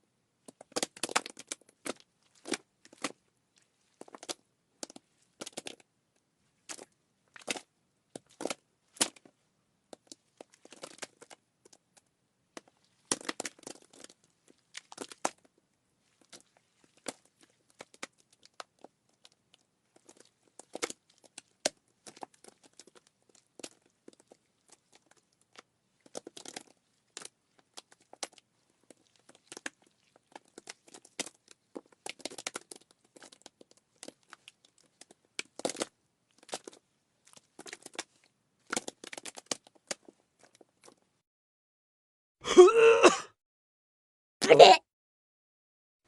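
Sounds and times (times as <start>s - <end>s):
crackles and clicks: 0.4s - 41.2s.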